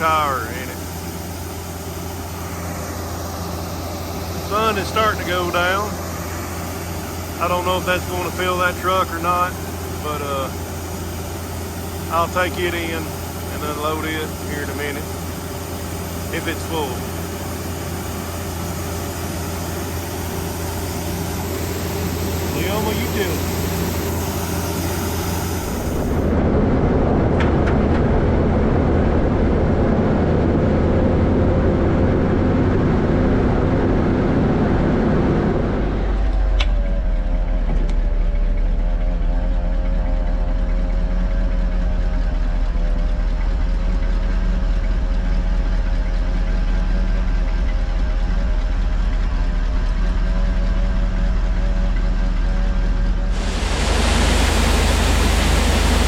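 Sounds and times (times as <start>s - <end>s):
diesel farm machinery running: 0.0s - 56.0s
wavering whine: 0.0s - 56.0s.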